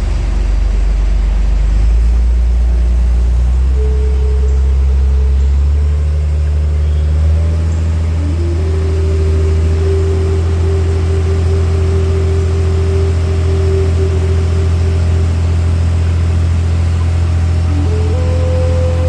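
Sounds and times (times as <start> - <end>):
speedboat engine droning: 0.0 - 19.0.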